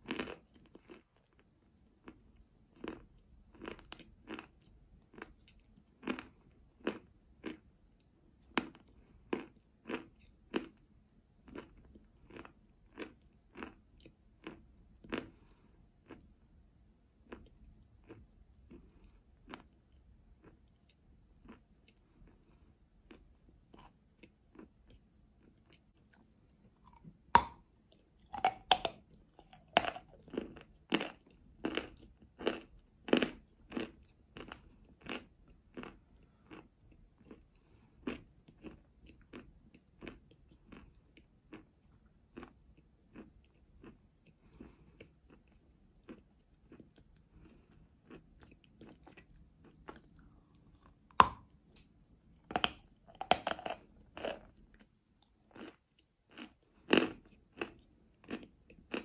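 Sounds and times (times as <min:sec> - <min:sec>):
crunchy chewing: 0:00.0 - 0:16.5, 0:17.2 - 0:59.0.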